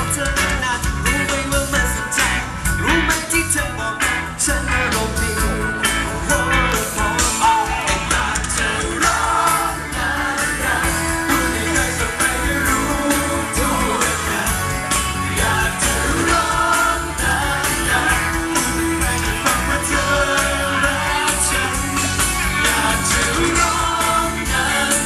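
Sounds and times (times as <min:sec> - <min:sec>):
drums and cymbals beat: 0:00.0 - 0:25.0
live band playing: 0:00.0 - 0:25.0
men singing pop-rock: 0:00.0 - 0:25.0.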